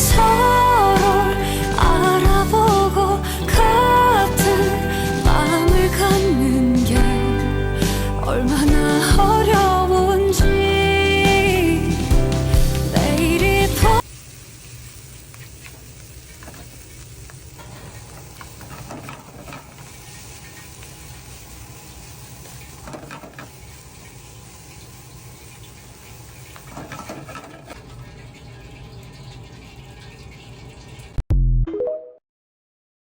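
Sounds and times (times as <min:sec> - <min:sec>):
rice sizzling in a pan: 0:00.0 - 0:07.1, 0:07.8 - 0:31.2.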